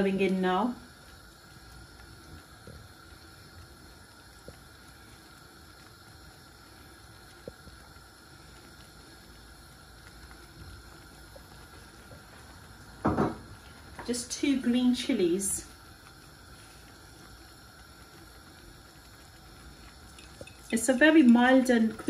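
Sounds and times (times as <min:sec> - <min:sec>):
curry simmering in pot: 0:00.0 - 0:22.0.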